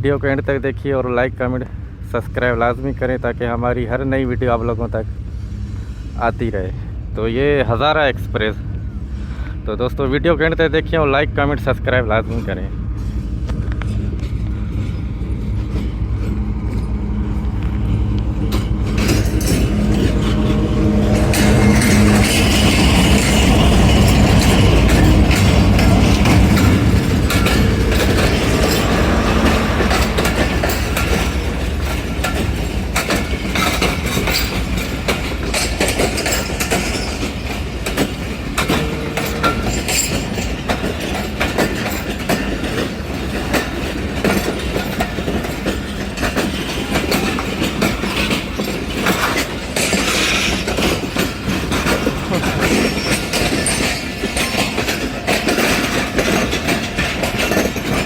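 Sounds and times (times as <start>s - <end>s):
heavy low train rumble: 0.0s - 58.0s
train wheels clattering on rails: 0.0s - 58.0s.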